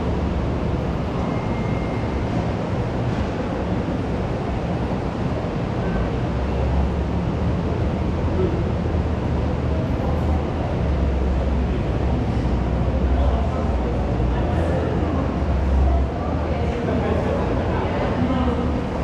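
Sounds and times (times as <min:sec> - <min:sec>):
crowd noise: 0:00.0 - 0:01.5, 0:03.5 - 0:19.0.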